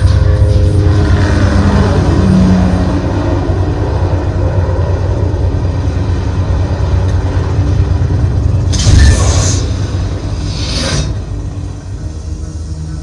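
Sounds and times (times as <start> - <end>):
deep soundtrack rumble: 0.0 - 13.0.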